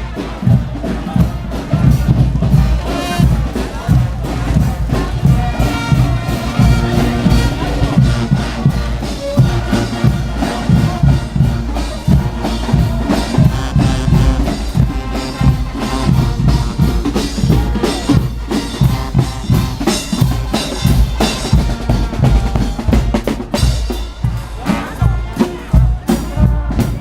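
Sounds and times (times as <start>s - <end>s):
bass drum and snare beat: 0.0s - 27.0s
brass band playing: 0.0s - 27.0s.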